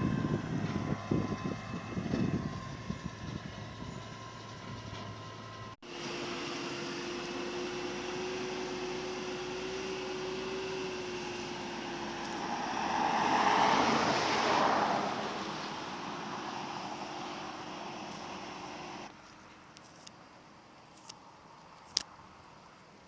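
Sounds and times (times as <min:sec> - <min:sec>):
tractor engine passing: 0:00.0 - 0:19.1.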